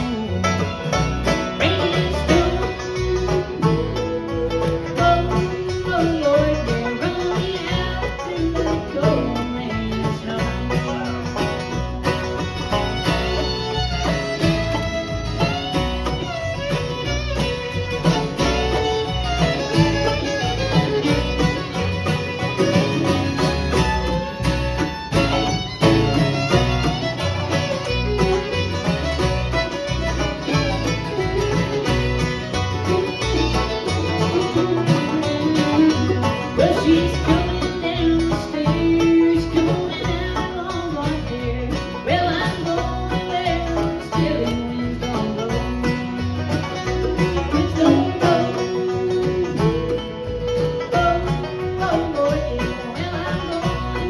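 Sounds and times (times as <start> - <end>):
banjo and guitar picking: 0.0 - 54.0
bass beat: 0.0 - 54.0
bluegrass music: 0.0 - 54.0
fiddle: 0.0 - 54.0.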